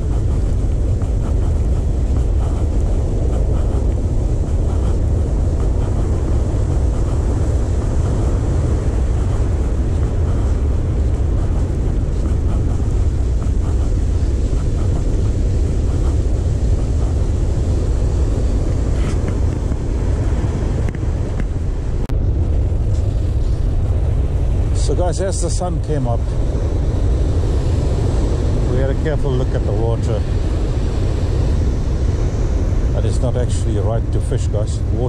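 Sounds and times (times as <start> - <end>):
surf breaking on a beach: 0.0 - 35.0.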